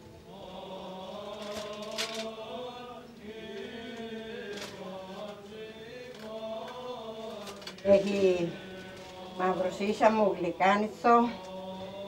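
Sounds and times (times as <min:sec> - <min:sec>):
chanting with long held notes: 0:00.0 - 0:12.0.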